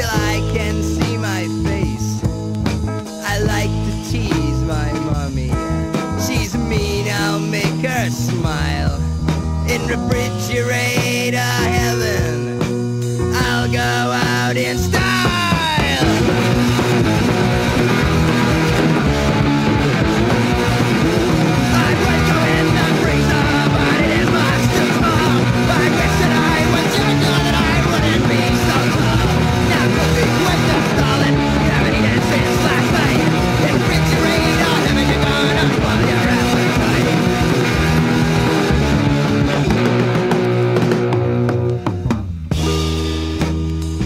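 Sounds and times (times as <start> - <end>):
electric guitar: 0.0 - 44.0
punk rock band playing: 0.0 - 44.0.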